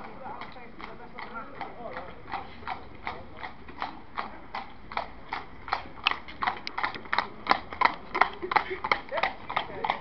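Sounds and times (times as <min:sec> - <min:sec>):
hooves clip-clopping on road: 0:00.0 - 0:10.0.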